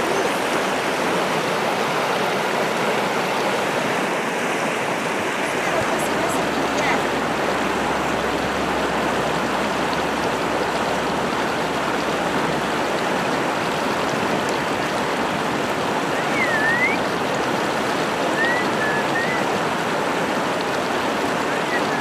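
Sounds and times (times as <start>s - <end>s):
river rushing over boulders: 0.0s - 22.0s.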